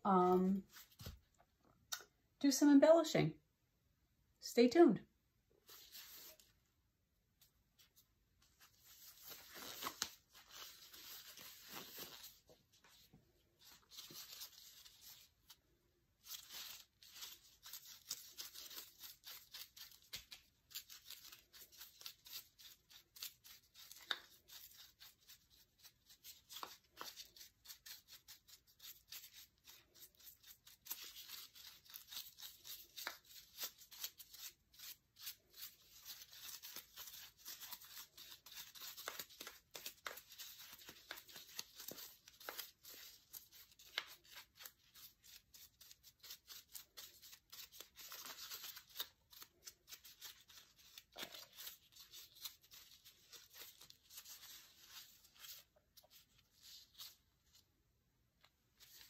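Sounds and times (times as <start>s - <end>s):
gloved hands rustling paper: 7.4s - 57.7s, 58.6s - 59.0s.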